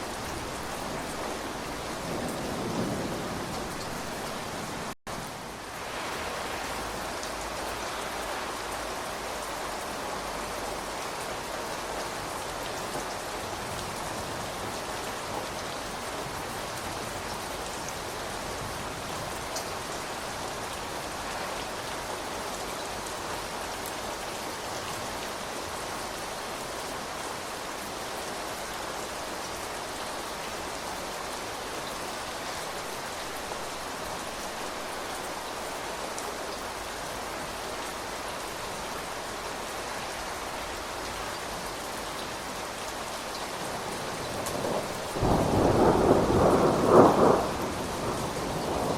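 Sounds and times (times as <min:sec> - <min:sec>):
raindrops striking surfaces: 0:00.0 - 0:48.9
steady rain hiss: 0:00.0 - 0:48.9.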